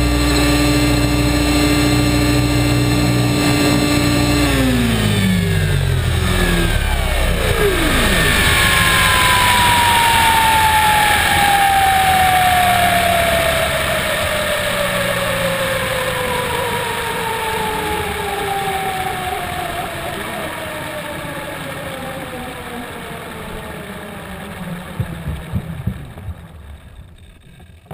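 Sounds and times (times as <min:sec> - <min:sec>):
rc helicopter motor whine: 0:00.0 - 0:27.9
steady rushing noise: 0:00.0 - 0:27.9.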